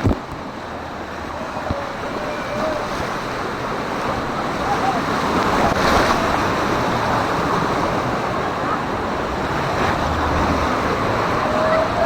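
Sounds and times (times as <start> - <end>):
churning water rushing: 0.0 - 12.0.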